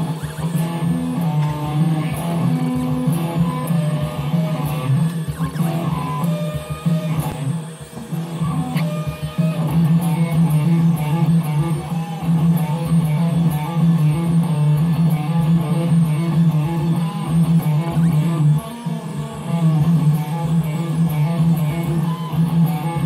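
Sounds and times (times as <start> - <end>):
strummed guitar music: 0.0 - 23.0.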